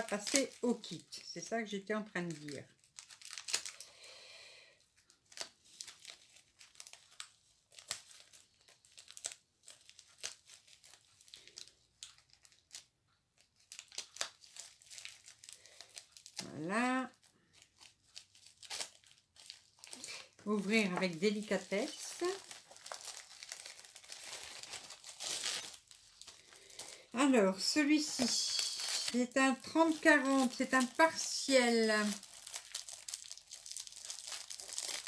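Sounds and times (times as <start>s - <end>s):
plastic packaging crinkling: 0.0s - 4.2s, 5.0s - 35.0s.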